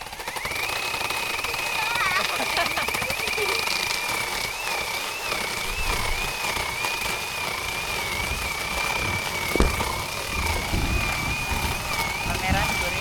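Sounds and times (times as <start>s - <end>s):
electric chainsaw whine: 0.0s - 13.0s.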